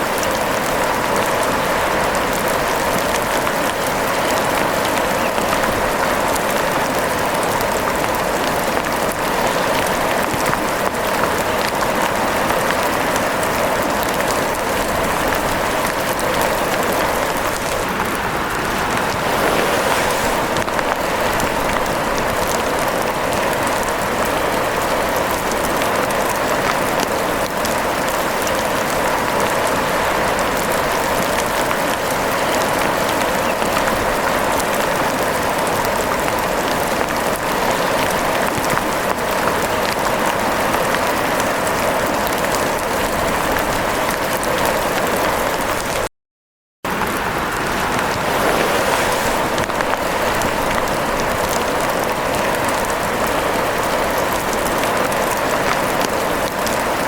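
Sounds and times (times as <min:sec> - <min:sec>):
steady rain falling: 0:00.0 - 0:46.1, 0:46.9 - 0:57.0.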